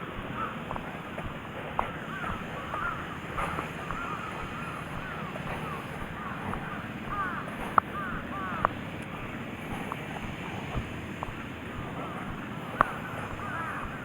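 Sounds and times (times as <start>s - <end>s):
birds calling: 0.0s - 14.0s
sea noise: 0.0s - 14.0s
wind: 0.0s - 14.0s.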